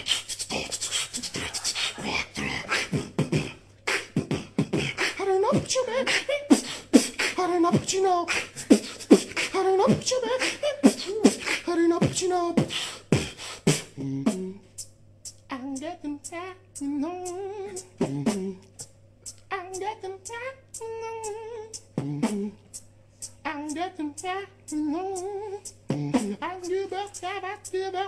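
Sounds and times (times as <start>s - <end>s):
pitched vocal line: 0.0s - 14.7s, 15.3s - 28.0s
man beatboxing: 0.0s - 28.0s.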